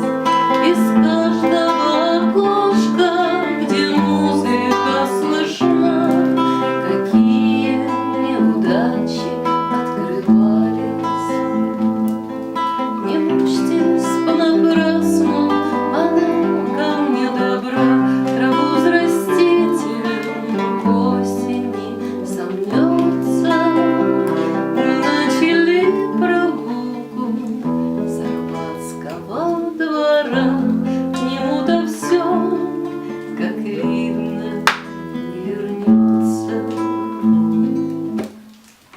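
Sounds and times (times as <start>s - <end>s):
person singing: 0.0s - 38.3s
acoustic guitar strumming: 0.0s - 38.6s.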